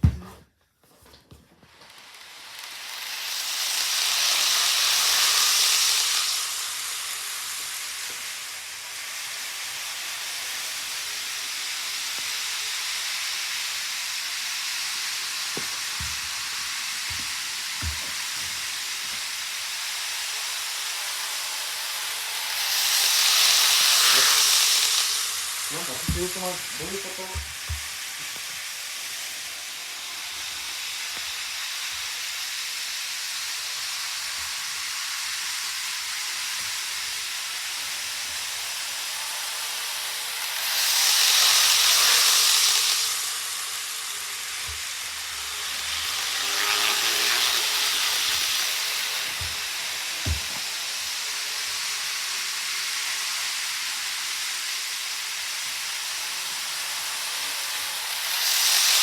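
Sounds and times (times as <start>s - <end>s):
model trains running on track: 1.7s - 59.0s.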